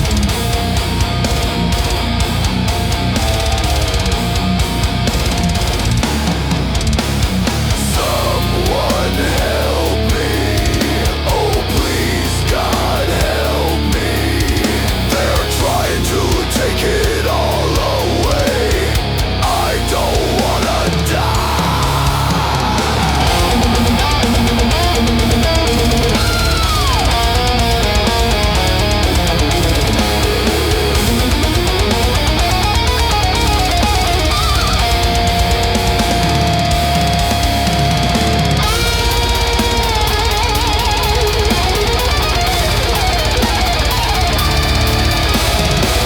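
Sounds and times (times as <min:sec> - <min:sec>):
distorted electric guitar lead: 0:00.0 - 0:46.0
drums and bass: 0:00.0 - 0:46.0.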